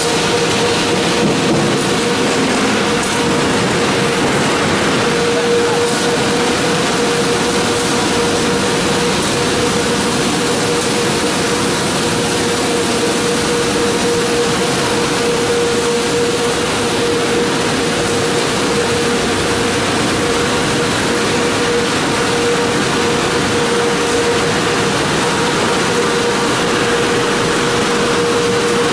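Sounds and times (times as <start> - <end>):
processing machinery humming: 0.0 - 28.9.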